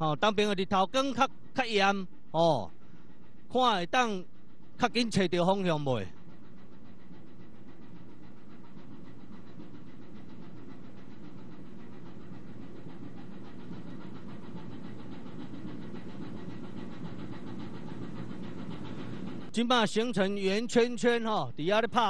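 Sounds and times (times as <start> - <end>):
ship engine droning: 0.0 - 22.0.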